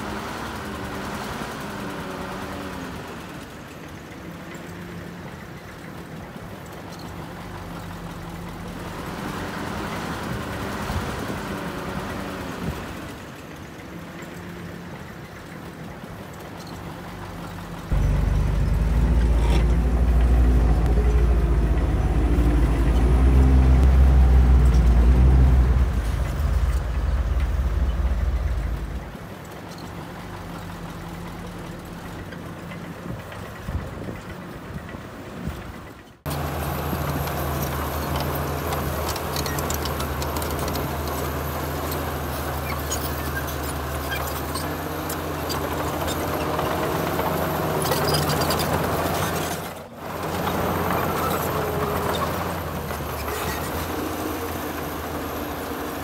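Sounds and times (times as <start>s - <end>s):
heavy diesel engines running: 0.0s - 56.0s
loud deep engine rumble: 0.0s - 56.0s.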